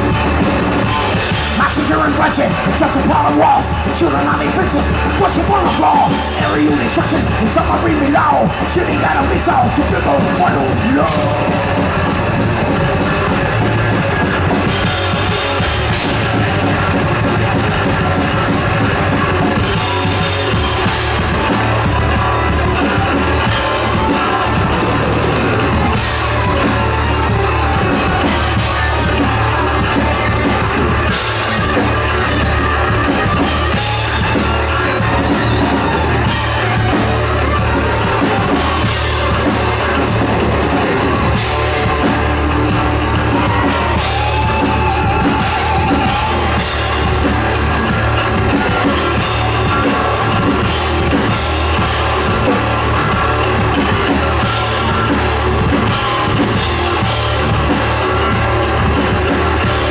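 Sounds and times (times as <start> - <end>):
thrash metal band playing live: 0.0 - 59.9.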